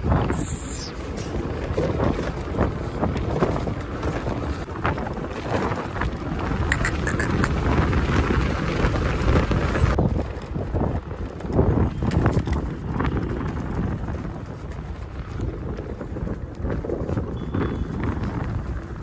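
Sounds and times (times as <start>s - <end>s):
road and tyre noise: 0.0s - 19.0s
wind buffeting microphone: 0.0s - 19.0s.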